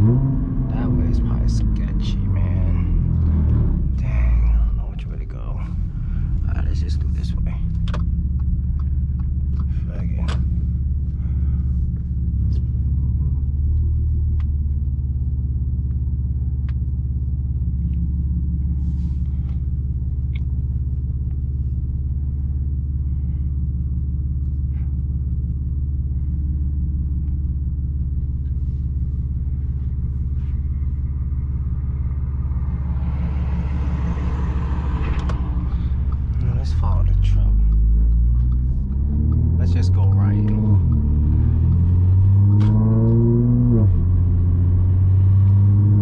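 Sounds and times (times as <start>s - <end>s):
car engine idling: 0.0s - 46.0s
rushing sound of car moving: 0.0s - 46.0s.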